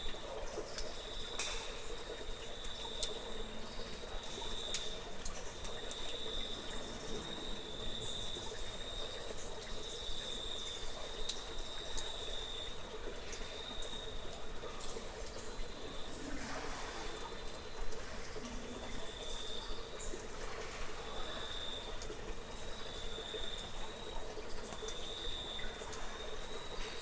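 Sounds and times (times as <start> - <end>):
insects trilling: 0.0 - 27.0
trickling water: 0.0 - 27.0.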